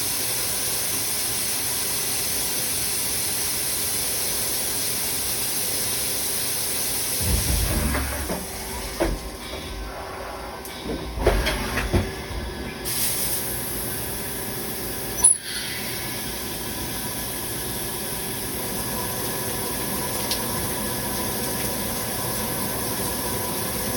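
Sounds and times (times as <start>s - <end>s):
machinery humming and hissing: 0.0s - 23.9s.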